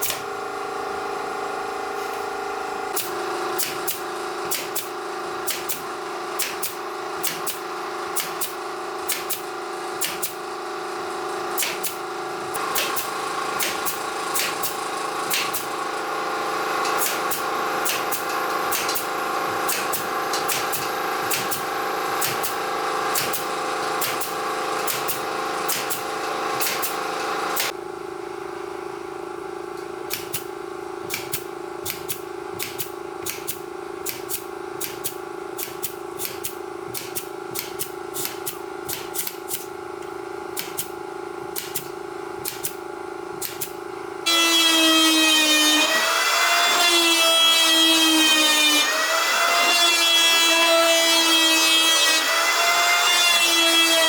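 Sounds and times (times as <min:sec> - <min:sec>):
woodworking power tool running: 0:00.0 - 0:54.0.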